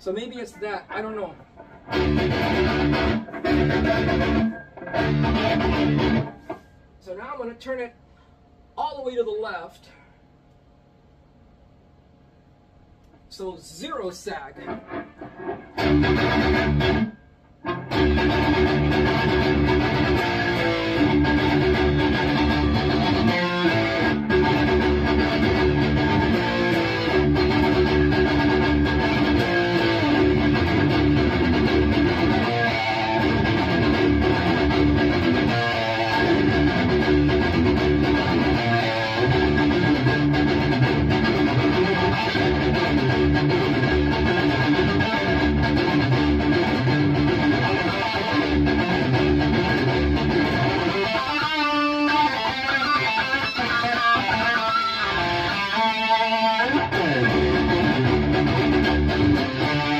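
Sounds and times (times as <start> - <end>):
distorted electric guitar riffing: 0.0 - 6.8, 14.6 - 59.9.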